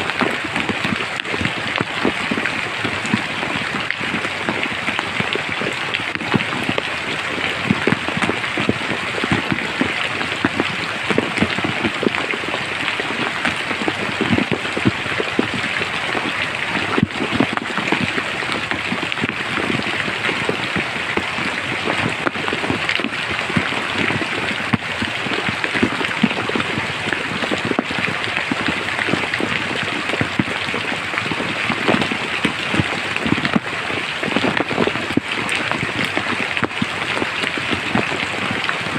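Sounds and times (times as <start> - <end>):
steady rain in a forest: 0.0 - 38.9.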